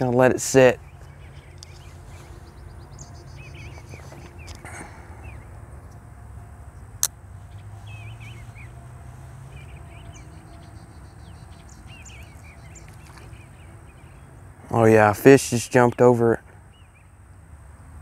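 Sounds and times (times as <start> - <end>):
small birds chirping: 0.0 - 6.1, 6.7 - 17.9.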